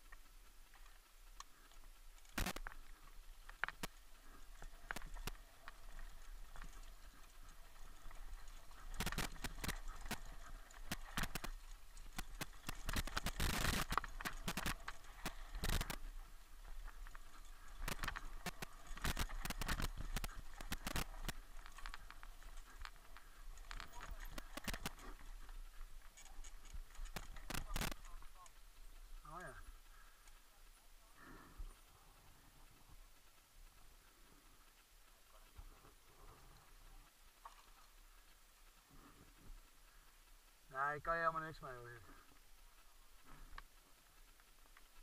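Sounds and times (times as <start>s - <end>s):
mountain bike rattling over rough ground: 0.0s - 45.0s.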